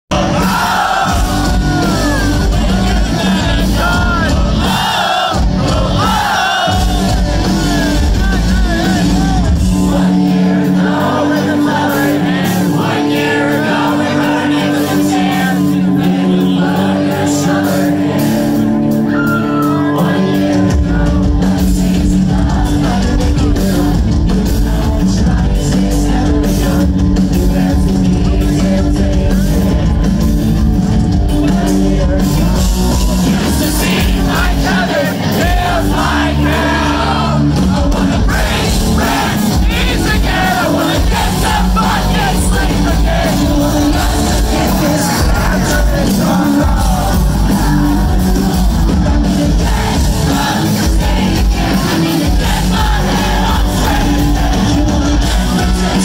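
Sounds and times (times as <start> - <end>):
bass guitar: 0.0 - 56.0
crowd shouting and singing along: 0.0 - 56.0
drums: 0.0 - 56.0
lead vocals: 0.0 - 56.0
electric guitars: 0.1 - 56.0.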